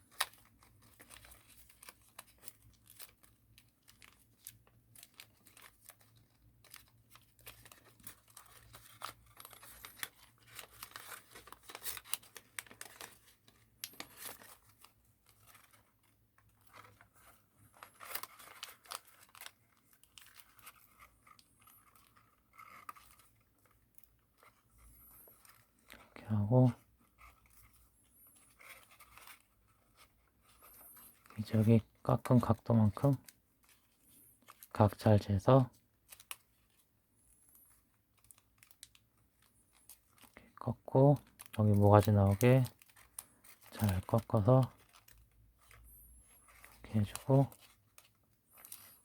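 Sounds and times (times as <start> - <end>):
paper crinkling and rustling: 0.0 - 49.0.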